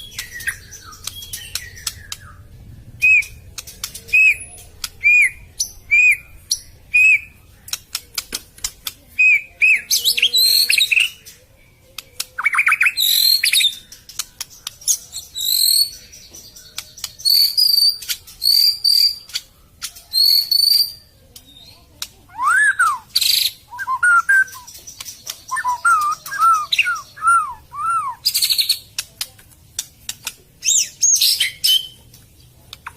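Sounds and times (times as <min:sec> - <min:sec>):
bird singing varied song: 0:00.0 - 0:32.9.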